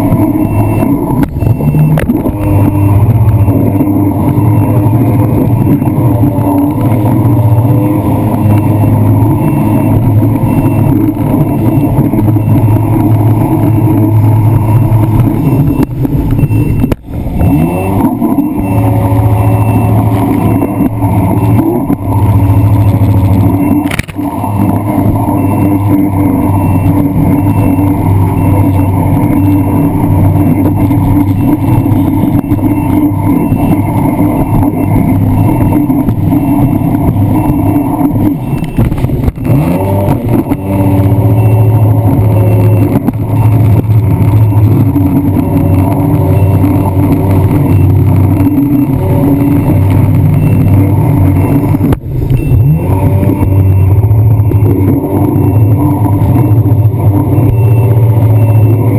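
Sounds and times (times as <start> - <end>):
jet ski engine running: 0.0 - 58.9.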